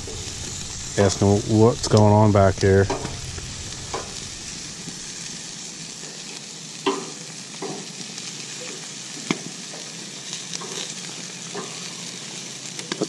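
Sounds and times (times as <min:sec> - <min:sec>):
chicken wings sizzling on grill: 0:00.0 - 0:13.0.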